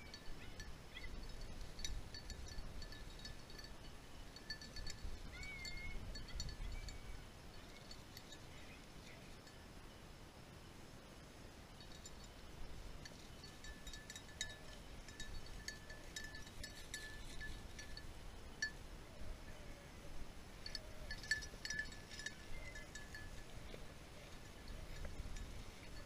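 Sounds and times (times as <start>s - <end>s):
small metal bell jingling: 0.0s - 9.6s, 11.8s - 18.8s, 20.6s - 26.0s.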